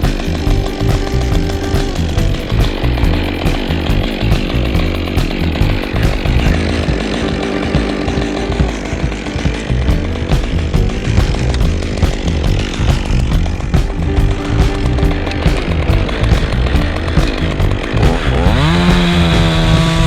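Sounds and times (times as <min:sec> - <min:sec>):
background music: 0:00.0 - 0:20.0
chainsaw cutting wood: 0:00.0 - 0:20.0.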